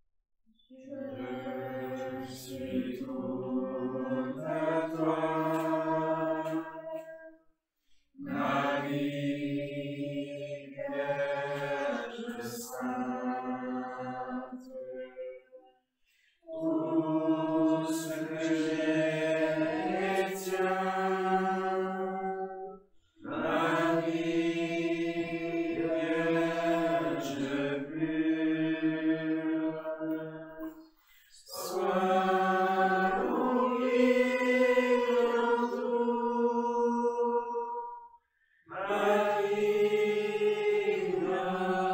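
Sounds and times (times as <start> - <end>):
voices singing religious chant: 0.6 - 7.5, 8.1 - 41.9.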